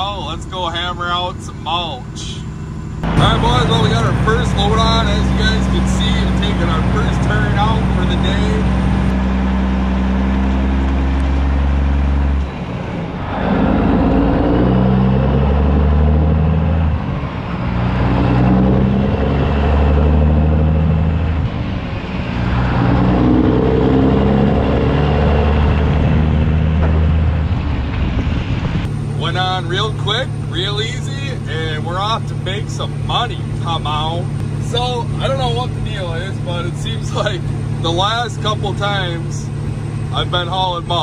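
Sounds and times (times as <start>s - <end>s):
diesel truck engine accelerating: 0.0s - 41.0s.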